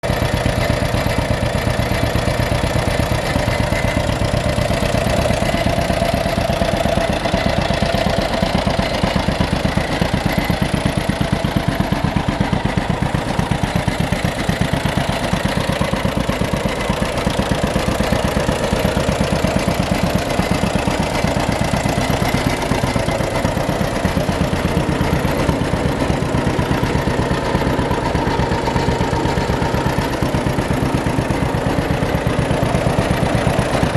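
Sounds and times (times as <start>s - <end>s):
tractor engine popping: 0.0s - 33.9s.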